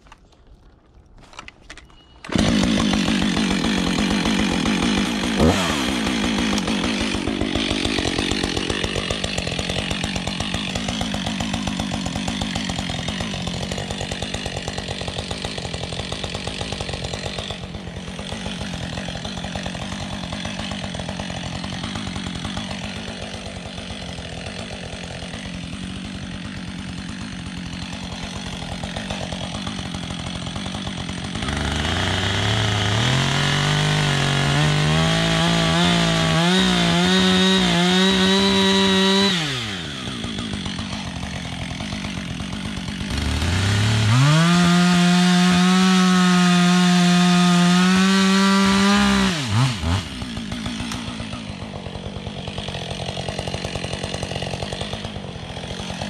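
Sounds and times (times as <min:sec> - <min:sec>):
chainsaw starting and idling: 0:01.3 - 0:56.0.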